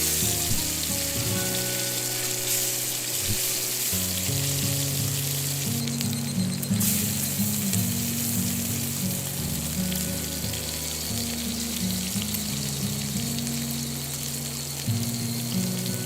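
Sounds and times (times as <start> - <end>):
background music with low notes: 0.0 - 16.0
food sizzling in a pan: 0.0 - 16.0.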